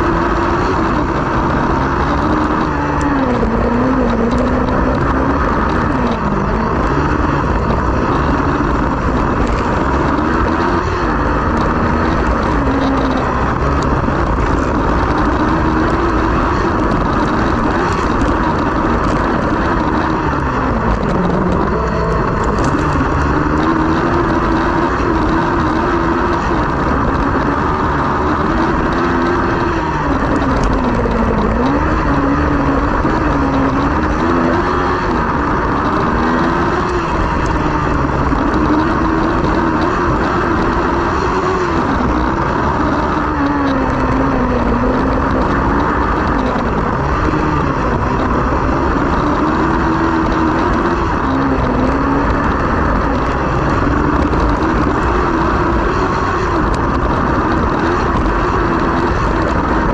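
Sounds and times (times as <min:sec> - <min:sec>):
buggy engine revving: 0:00.0 - 0:59.9
wind and tyre noise: 0:00.0 - 0:59.9.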